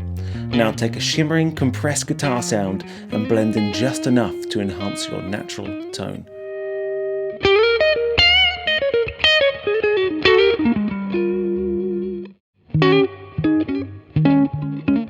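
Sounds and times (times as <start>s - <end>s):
electric guitar notes and chords: 0.0s - 15.0s.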